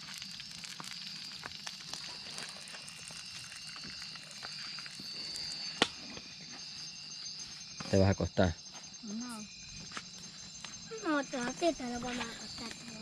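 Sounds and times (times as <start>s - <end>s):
campfire crackling and popping: 0.0s - 7.8s, 9.3s - 13.0s
night insects chirring: 0.0s - 13.0s.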